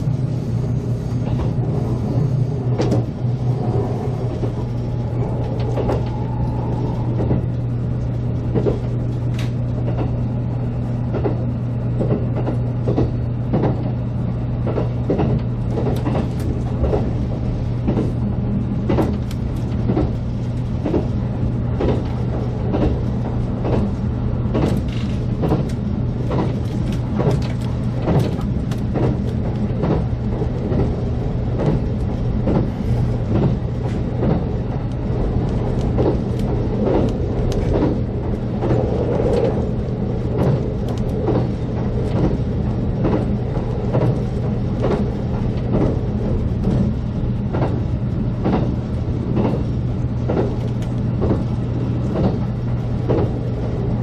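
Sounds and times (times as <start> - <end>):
train interior hum: 0.0 - 54.0.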